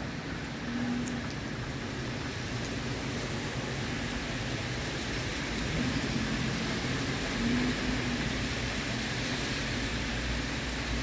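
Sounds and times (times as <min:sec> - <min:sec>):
rain on wet asphalt: 0:00.0 - 0:11.0.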